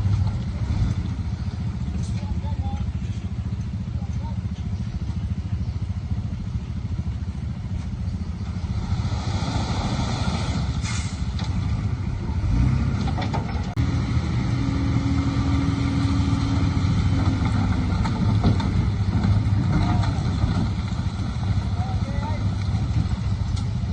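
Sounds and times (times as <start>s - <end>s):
heavy diesel engine rumbling: 0.0s - 23.9s.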